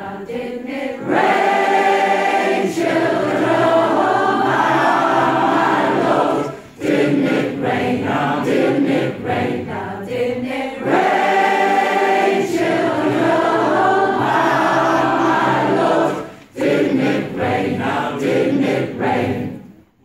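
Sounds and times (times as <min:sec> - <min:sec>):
choir singing a gospel song: 0:00.0 - 0:19.9.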